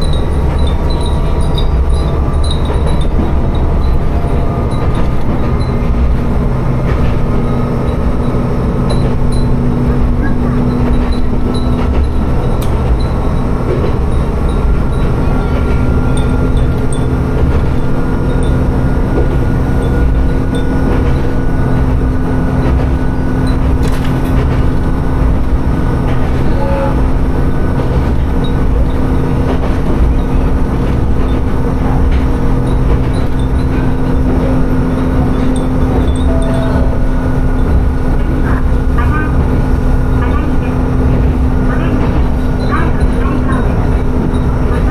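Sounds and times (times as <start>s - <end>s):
train engine drone: 0.0s - 44.9s
wheels rumbling on rails: 0.0s - 44.9s.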